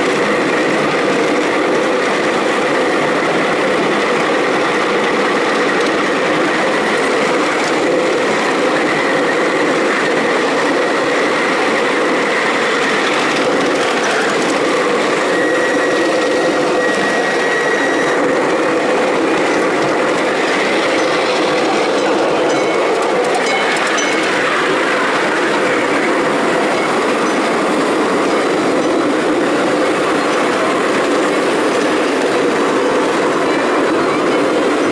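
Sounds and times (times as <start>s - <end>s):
high whine: 0.0s - 34.9s
miniature train wheels on rails: 0.0s - 34.9s.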